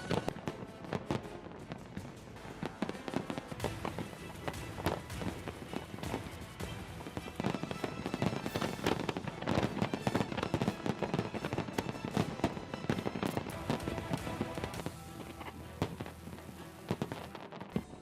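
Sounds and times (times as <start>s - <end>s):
fireworks bangs and crackles: 0.0s - 18.0s
music playing: 0.0s - 18.0s.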